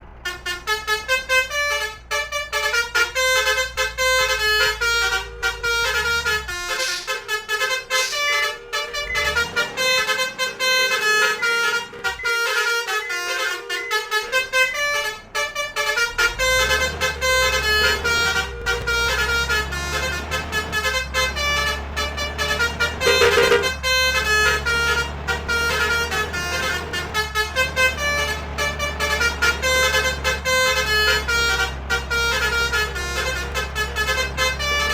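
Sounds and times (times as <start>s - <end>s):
vehicle engine low hum: 0.0s - 34.9s
musical vehicle horn melody: 0.1s - 34.9s.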